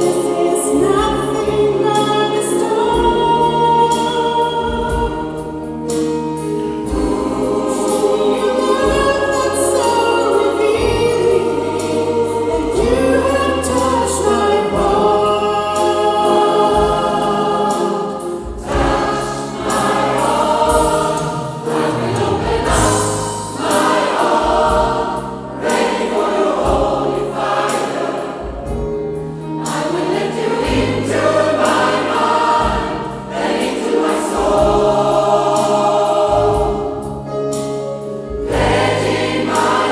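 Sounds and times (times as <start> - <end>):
drums: 0.0 - 39.9
gospel choir singing: 0.0 - 39.9.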